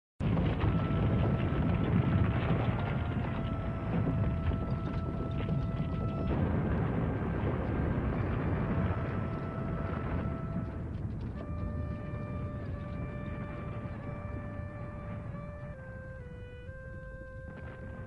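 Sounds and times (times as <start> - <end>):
distant explosions: 0.2 - 18.0.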